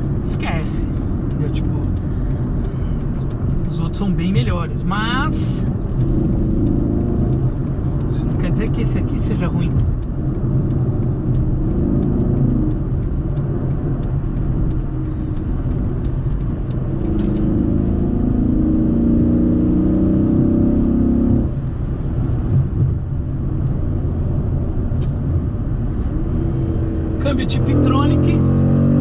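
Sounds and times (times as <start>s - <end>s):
car engine low rumble: 0.0s - 29.0s.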